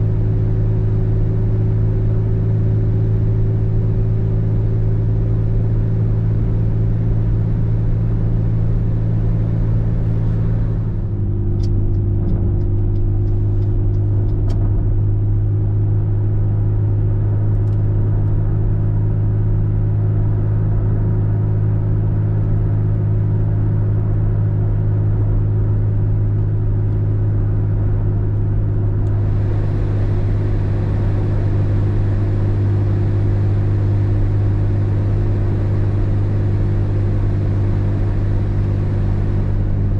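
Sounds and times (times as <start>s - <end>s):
car engine and road noise drone: 0.0s - 39.9s.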